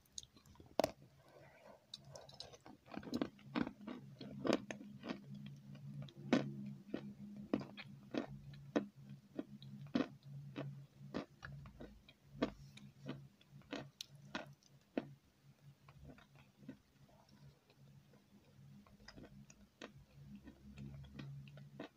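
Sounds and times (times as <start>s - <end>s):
faint low hum: 0.0s - 21.9s.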